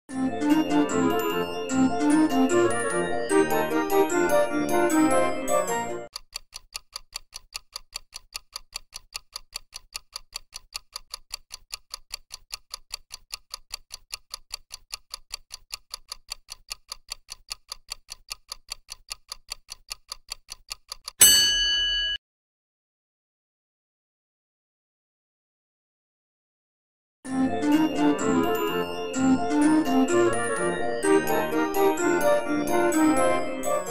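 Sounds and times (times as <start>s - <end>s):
clock ticking: 0.4s - 21.3s, 27.6s - 33.9s.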